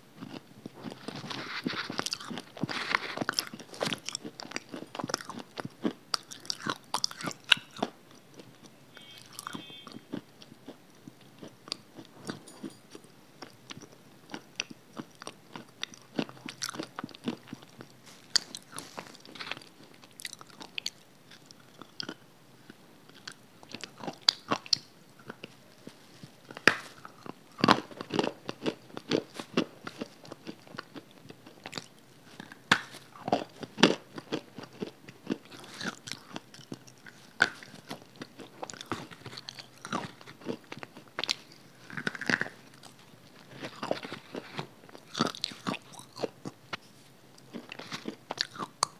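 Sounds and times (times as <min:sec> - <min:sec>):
biting and chewing crunches: 0:00.2 - 0:46.8, 0:47.4 - 0:48.9.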